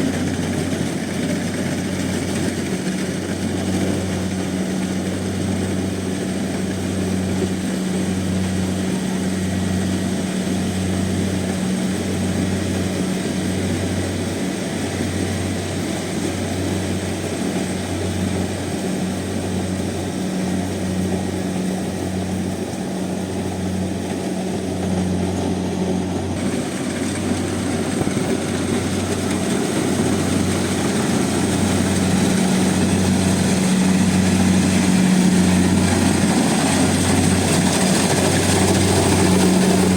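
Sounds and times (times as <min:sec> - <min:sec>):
combine harvester machinery hum: 0:00.0 - 0:39.9.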